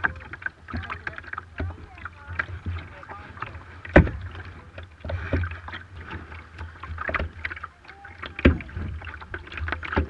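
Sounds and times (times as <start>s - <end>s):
paddle splashes: 0.0s - 10.0s
water slapping against hull: 0.0s - 10.0s.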